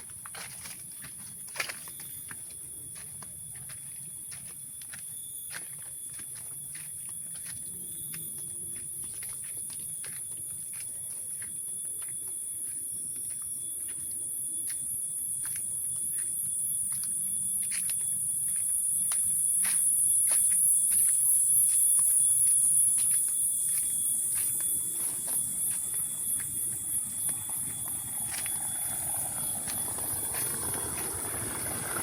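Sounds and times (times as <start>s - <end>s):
footsteps crunching on trail: 0.0s - 32.0s
insects shrill pulsing drone: 0.0s - 32.0s
thin steady insect whine: 0.0s - 32.0s.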